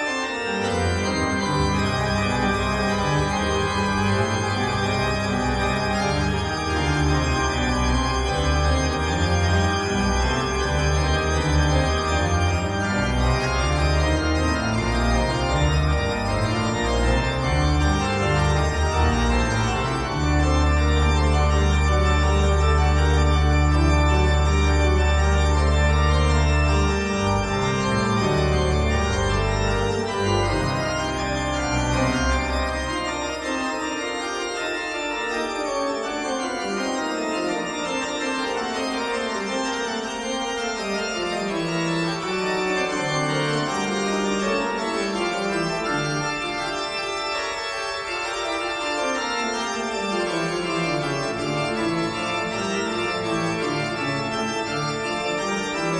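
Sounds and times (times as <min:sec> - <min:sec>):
organ music: 0:00.0 - 0:55.9.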